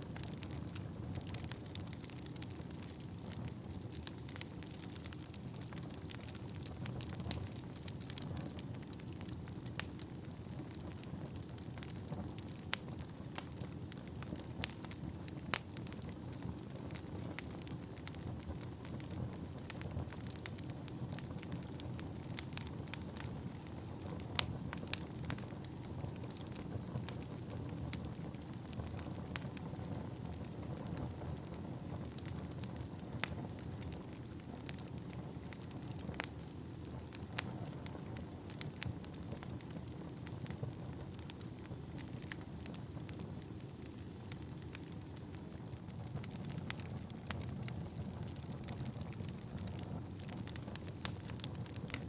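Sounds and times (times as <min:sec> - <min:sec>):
fire flames rumbling: 0:00.0 - 0:52.0
logs crackling and popping: 0:00.0 - 0:52.0.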